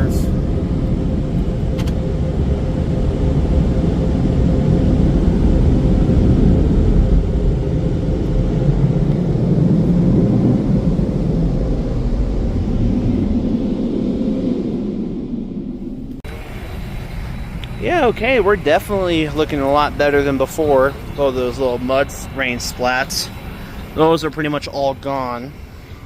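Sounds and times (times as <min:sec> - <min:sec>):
rush of air from blowers: 0:00.0 - 0:26.0
steady hum: 0:00.0 - 0:26.0.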